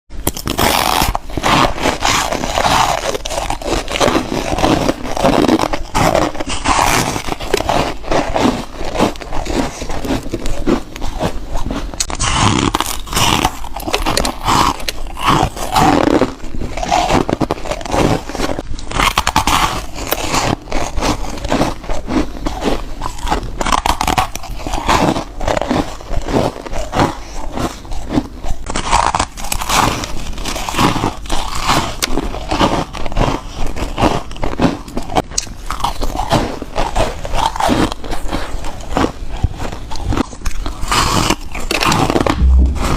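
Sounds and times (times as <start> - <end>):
crunching ice: 0.2 - 42.7.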